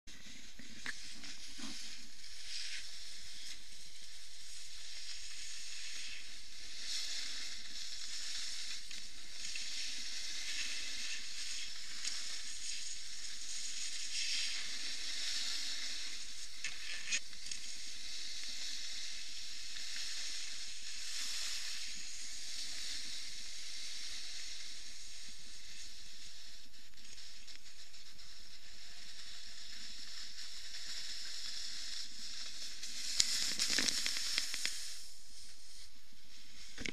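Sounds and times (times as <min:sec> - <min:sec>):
snowboard scraping over snow: 0:00.2 - 0:26.5, 0:28.3 - 0:35.9.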